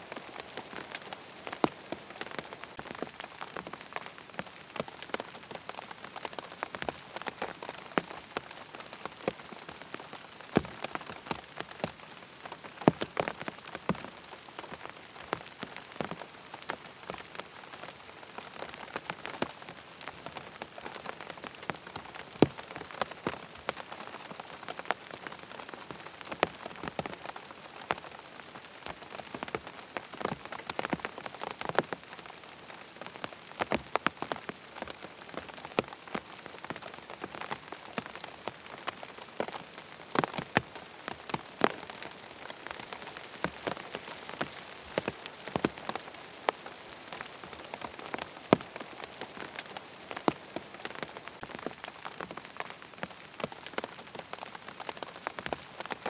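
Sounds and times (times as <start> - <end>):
steady rain on a surface: 0.0 - 56.0.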